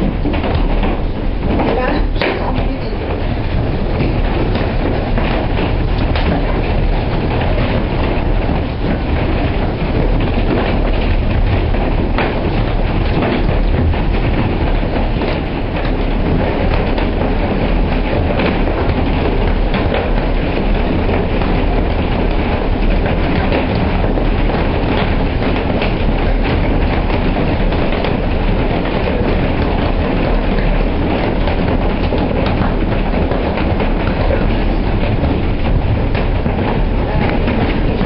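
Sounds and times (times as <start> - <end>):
hail and rain pelting: 0.0 - 38.0
sharp clicks of hailstones: 0.0 - 38.0.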